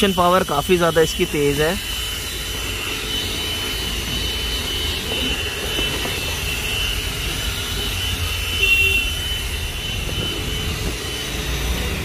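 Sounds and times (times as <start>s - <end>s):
handheld vacuum cleaner whining: 0.0s - 12.0s.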